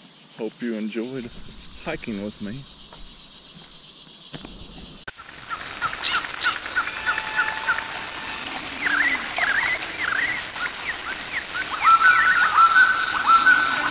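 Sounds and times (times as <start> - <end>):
small animals chirping: 0.8 - 7.8, 8.8 - 13.9.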